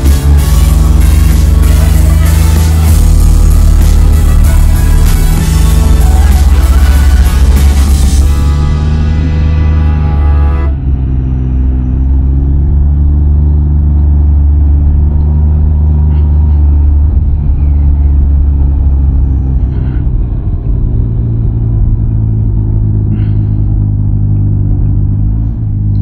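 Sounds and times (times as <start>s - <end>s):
three-wheeler engine running: 0.0s - 26.0s.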